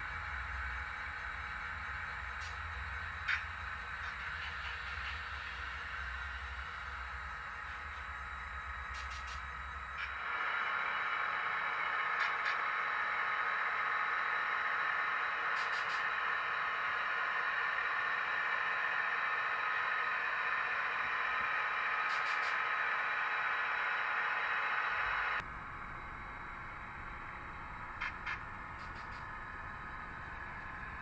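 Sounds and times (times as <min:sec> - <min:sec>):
model train rolling on track: 0:00.0 - 0:31.0.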